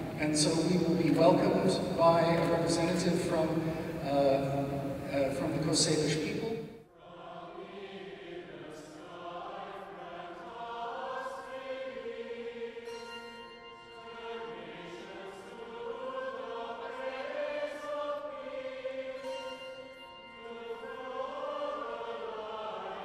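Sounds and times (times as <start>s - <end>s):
choir singing a slow chant: 0.0s - 23.0s.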